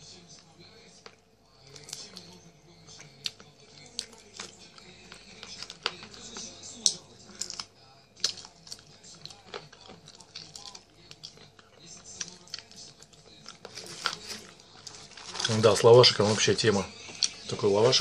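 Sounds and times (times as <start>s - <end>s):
chewing and mouth clicks: 1.0s - 15.5s, 17.0s - 17.4s.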